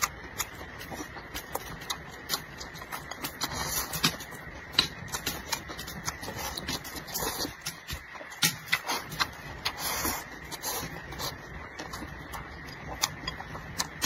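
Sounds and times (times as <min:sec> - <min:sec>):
chewing and smacking: 0:00.0 - 0:14.0.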